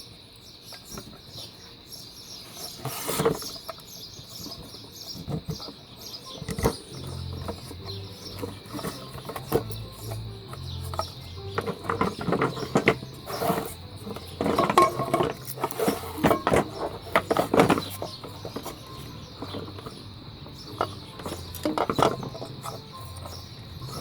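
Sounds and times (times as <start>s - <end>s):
plastic and metal clicks and knocks: 3.0s - 24.0s.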